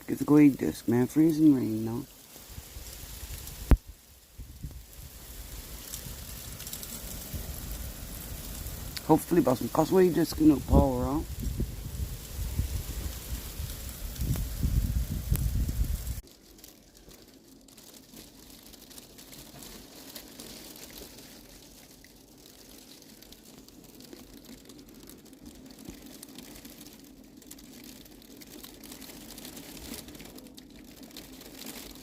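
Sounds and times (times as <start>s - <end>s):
ice pellets and freezing rain: 0.0s - 32.0s.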